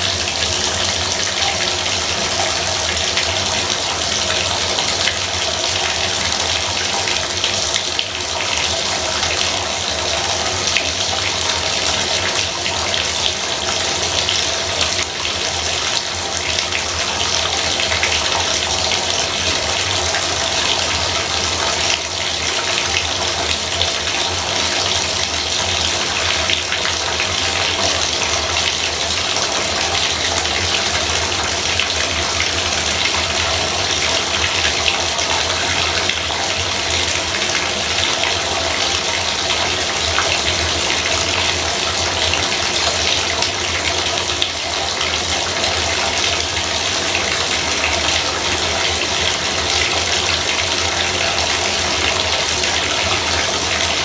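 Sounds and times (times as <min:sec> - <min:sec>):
water pouring into bathtub: 0:00.0 - 0:54.0.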